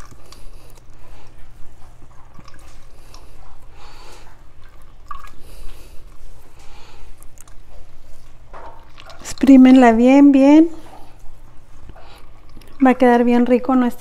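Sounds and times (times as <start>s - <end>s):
whey dripping and trickling: 0.0s - 13.9s.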